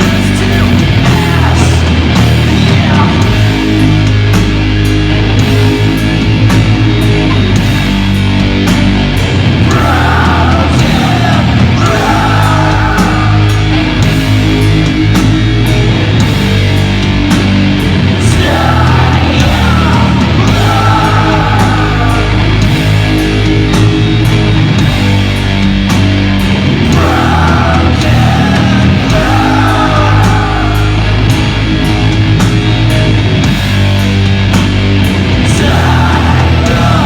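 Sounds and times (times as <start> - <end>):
doom metal band playing: 0.0 - 37.0
high wavering guitar line: 0.0 - 37.0.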